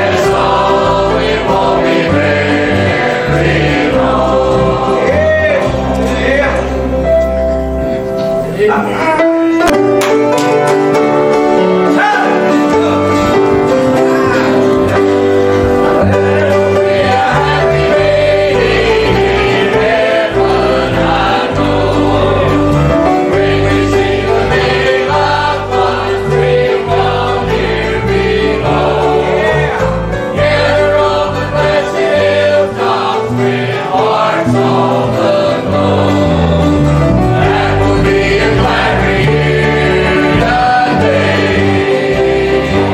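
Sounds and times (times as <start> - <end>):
congregation singing a hymn: 0.0 - 42.9
instrumental accompaniment: 0.0 - 42.9.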